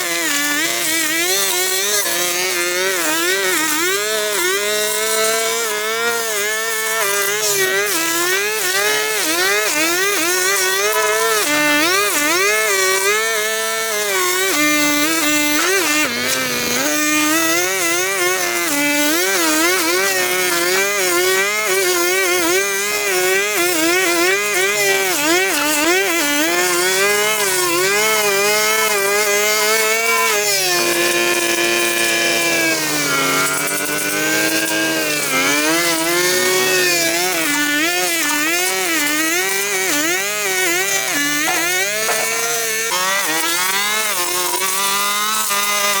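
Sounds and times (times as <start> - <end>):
grass trimmer engine whining: 0.0 - 46.0.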